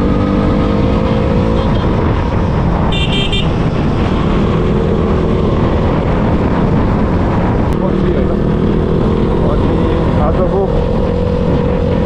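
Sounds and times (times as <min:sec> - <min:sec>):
motorcycle running: 0:00.0 - 0:12.0
wind noise on microphone: 0:00.0 - 0:12.0.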